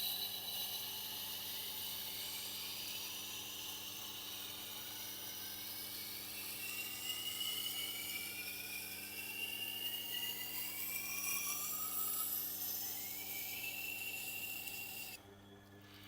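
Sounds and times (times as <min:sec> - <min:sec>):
knife hissing on grinding wheel: 0:00.0 - 0:15.2.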